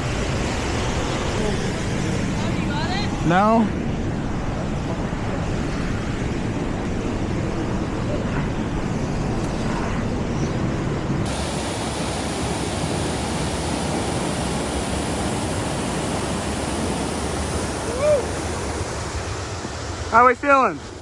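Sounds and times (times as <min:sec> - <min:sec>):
waterfall roaring: 0:00.0 - 0:08.8, 0:11.2 - 0:21.0.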